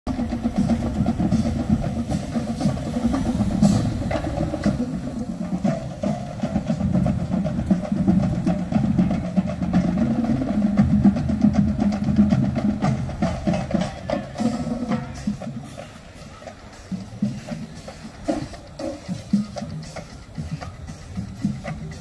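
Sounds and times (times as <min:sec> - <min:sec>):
drums beating rapid cadence: 0:00.1 - 0:22.0
marching band playing: 0:00.1 - 0:22.0.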